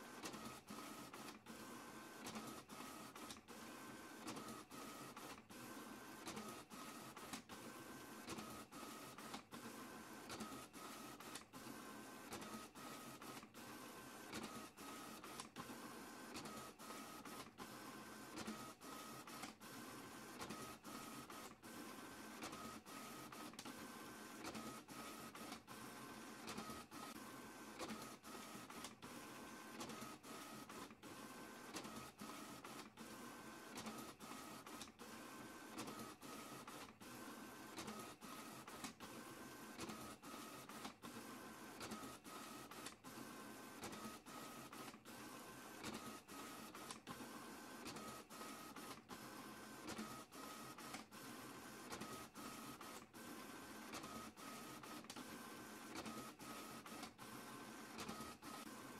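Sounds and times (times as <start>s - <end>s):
printer whirring: 0.0s - 58.9s.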